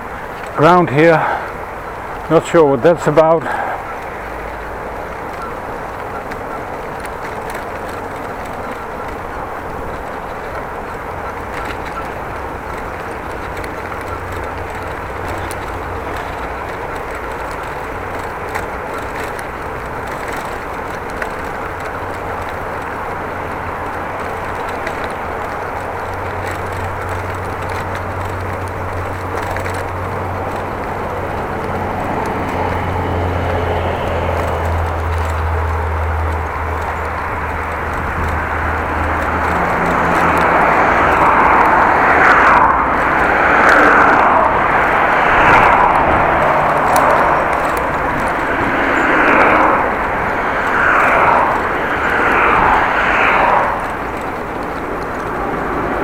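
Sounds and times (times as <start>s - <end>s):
bicycle tyre and road noise: 0.0s - 56.0s
wind rushing over microphone: 0.0s - 56.0s.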